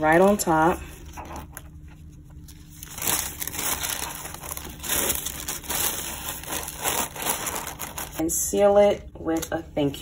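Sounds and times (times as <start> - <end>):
tissue paper crinkling: 0.0 - 8.4.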